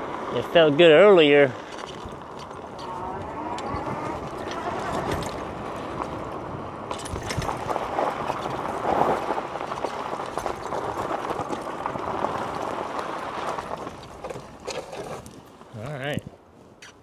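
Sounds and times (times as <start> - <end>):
tyres rolling on path: 0.0 - 17.0.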